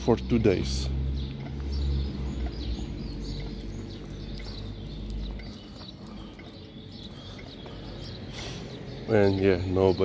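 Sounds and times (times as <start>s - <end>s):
steady low rumble: 0.0s - 9.8s
birds chirping: 0.0s - 10.0s.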